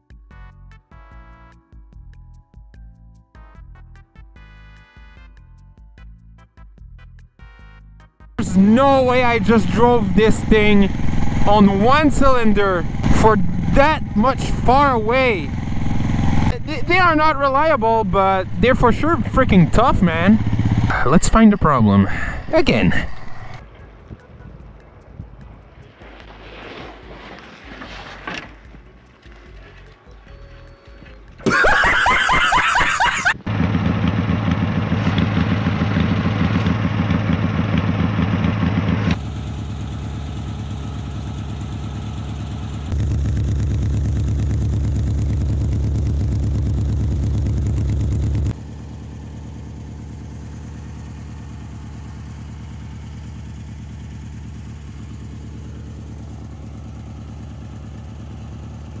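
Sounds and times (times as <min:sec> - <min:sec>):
riding lawn mower engine running: 0:08.4 - 0:30.8, 0:31.4 - 0:59.0.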